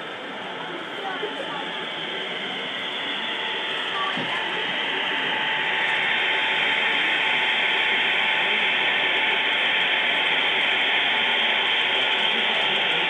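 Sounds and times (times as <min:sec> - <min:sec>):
model train running: 0:00.0 - 0:13.0.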